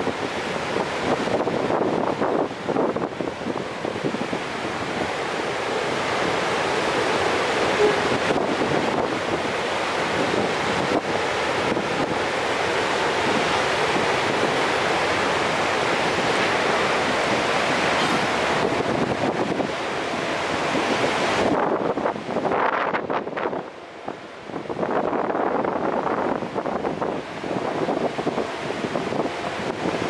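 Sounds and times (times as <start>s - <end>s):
waterfall rushing: 0.0s - 22.5s, 26.4s - 30.0s
wind on microphone: 0.0s - 30.0s.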